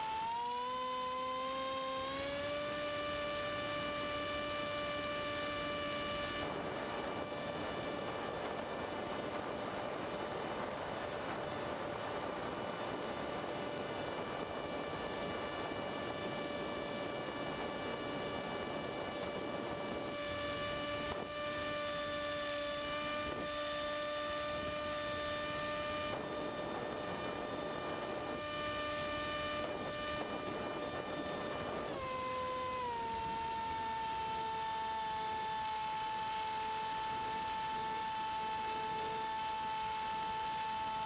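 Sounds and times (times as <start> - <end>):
model plane motor whining: 0.0 - 41.0.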